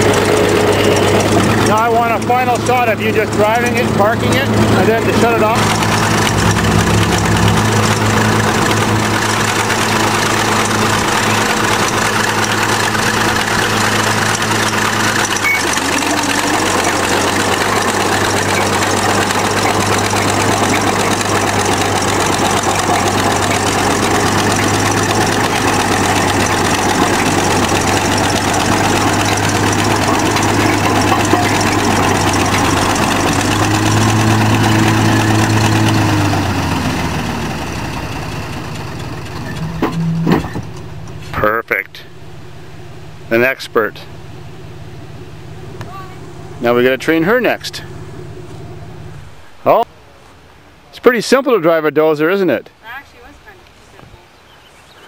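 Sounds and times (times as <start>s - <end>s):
bulldozer engine running: 0.0s - 49.9s.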